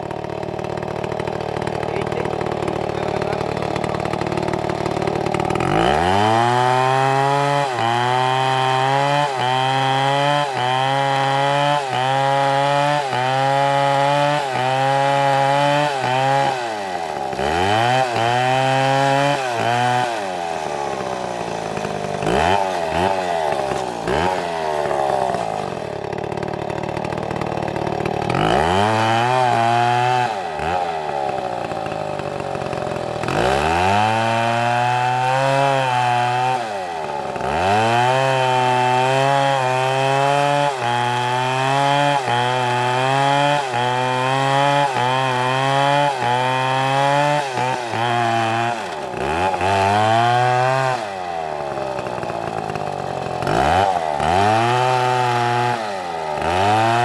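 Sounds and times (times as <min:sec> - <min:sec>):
chainsaw cutting wood: 0:00.0 - 0:57.0
chainsaw idling with throttle blips: 0:00.0 - 0:57.0.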